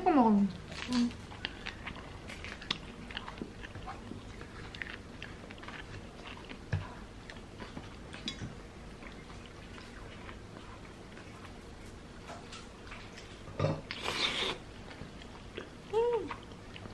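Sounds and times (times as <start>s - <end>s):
person chewing and eating: 0.5s - 16.9s.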